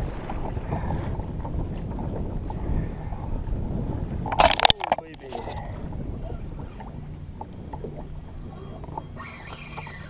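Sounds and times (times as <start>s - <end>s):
water splashing along kayak hull: 0.0s - 10.0s
wind buffeting microphone: 0.0s - 10.0s.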